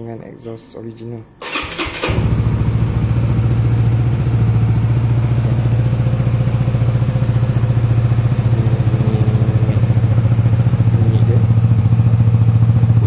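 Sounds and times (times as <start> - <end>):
motorcycle engine idling: 1.5 - 13.0.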